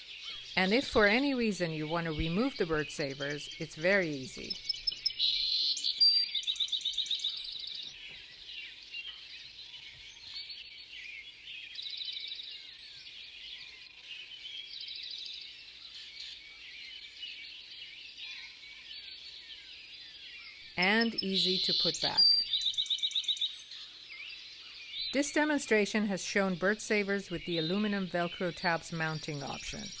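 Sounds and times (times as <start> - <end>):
small birds chirping and trilling: 0.0 - 30.0.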